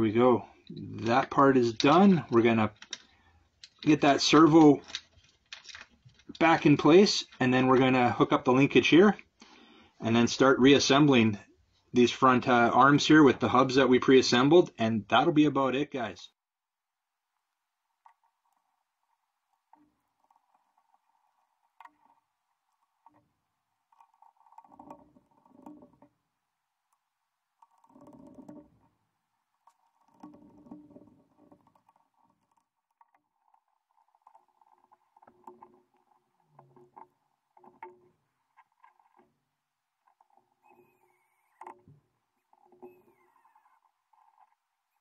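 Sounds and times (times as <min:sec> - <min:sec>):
plastic parts rubbing and scraping: 0:00.0 - 0:15.3, 0:17.3 - 0:45.0.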